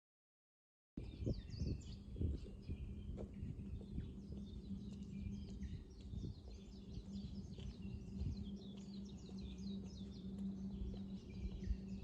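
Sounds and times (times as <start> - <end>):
small birds chirping: 1.0 - 12.0.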